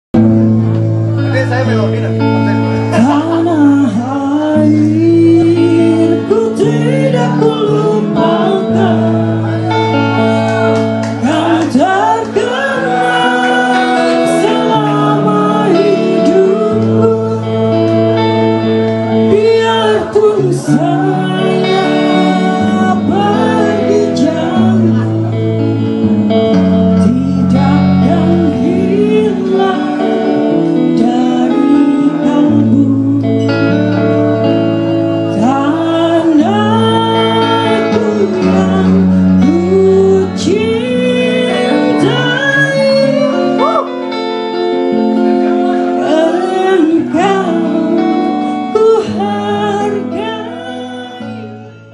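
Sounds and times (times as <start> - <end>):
guitar: 0.1 - 51.9
person singing: 2.7 - 51.9.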